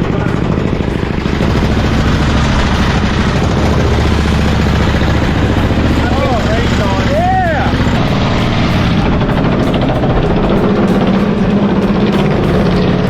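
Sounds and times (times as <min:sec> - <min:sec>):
bulldozer engine running: 0:00.0 - 0:13.0.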